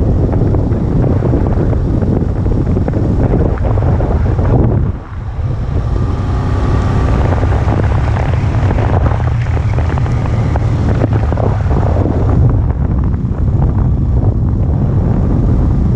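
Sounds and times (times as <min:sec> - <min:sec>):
wind noise on microphone: 0:00.0 - 0:15.9.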